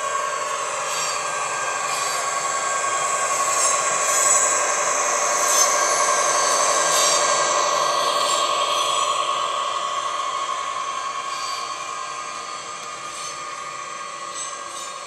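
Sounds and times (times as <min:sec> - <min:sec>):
model wheels running on track: 0:00.0 - 0:15.0
steady whine: 0:00.0 - 0:15.0.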